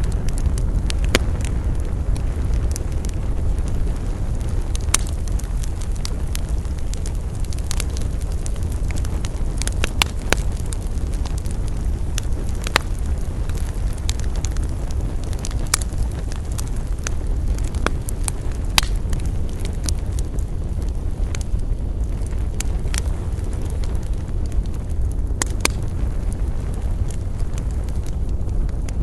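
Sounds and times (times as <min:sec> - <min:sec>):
campfire crackling and popping: 0:00.0 - 0:29.0
low fire rumble: 0:00.0 - 0:29.0.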